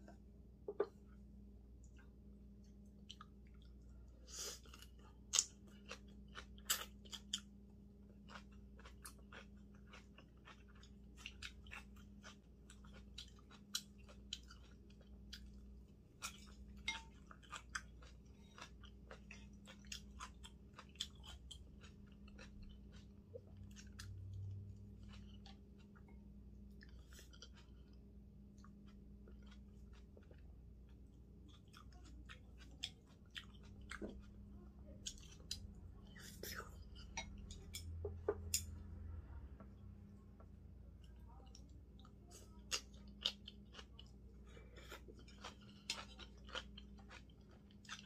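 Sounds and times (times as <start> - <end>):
low steady hum: 0.0 - 48.0
person chewing crunchy food: 0.8 - 39.0, 41.0 - 48.0.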